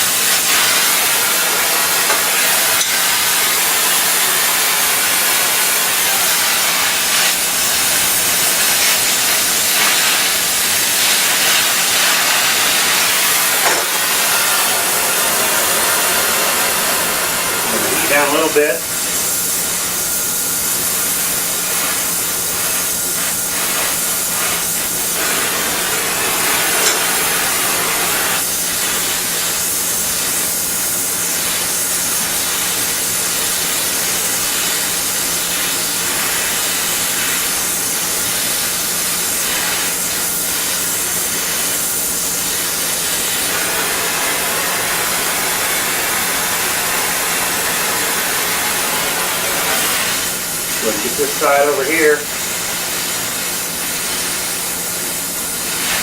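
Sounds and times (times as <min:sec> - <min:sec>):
fan droning: 0:00.0 - 0:56.0
gas torch hissing: 0:00.0 - 0:56.0.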